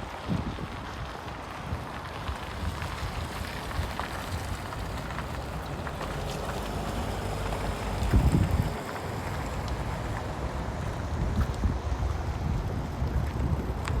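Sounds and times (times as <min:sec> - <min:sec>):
outdoor noise: 0:00.0 - 0:14.0
wind buffeting microphone: 0:00.0 - 0:14.0.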